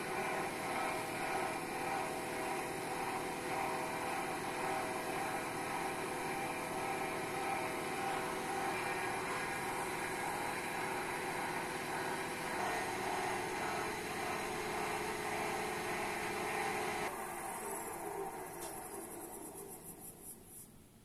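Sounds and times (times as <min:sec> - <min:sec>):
wood lathe motor hum: 0:00.0 - 0:20.2.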